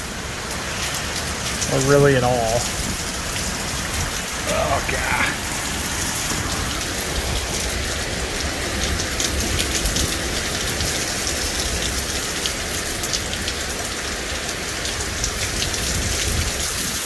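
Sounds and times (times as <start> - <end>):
heavy rain splattering: 0.0 - 17.0.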